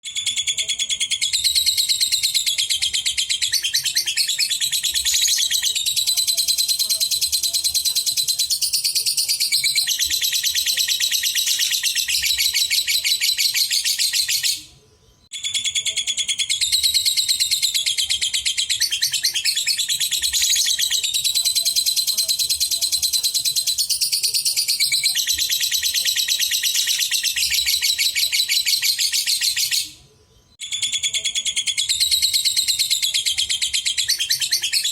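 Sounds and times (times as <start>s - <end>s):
lovebird chattering song: 0.1s - 14.8s, 15.4s - 30.0s, 30.6s - 34.9s.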